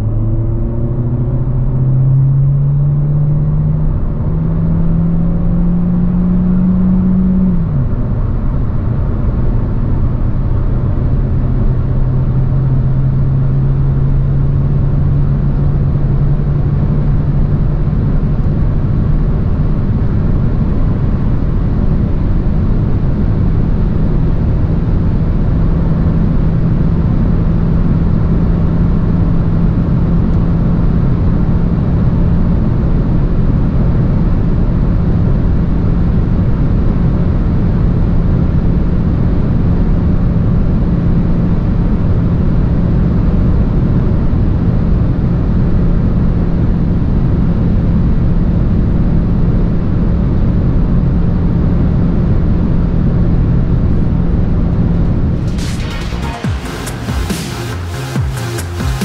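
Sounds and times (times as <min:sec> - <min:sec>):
car engine accelerating hard: 0:00.0 - 0:59.0
wind and road noise: 0:00.0 - 0:59.0.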